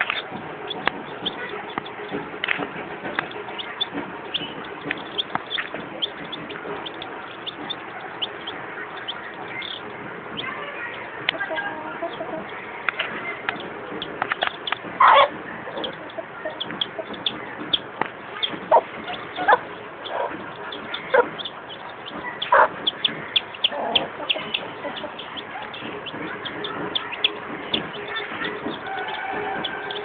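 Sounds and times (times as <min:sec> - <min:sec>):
chicks peeping: 0:00.0 - 0:30.0
hen clucking: 0:00.0 - 0:30.0.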